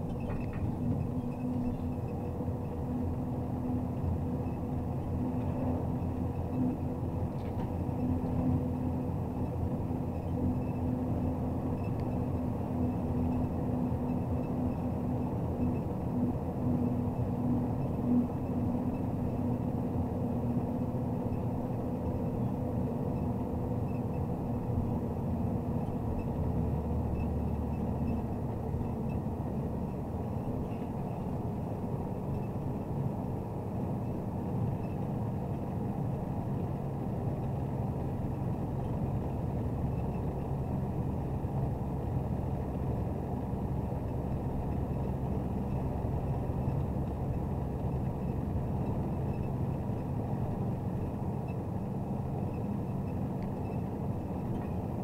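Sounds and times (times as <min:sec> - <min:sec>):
truck diesel engine drone: 0:00.0 - 0:55.0.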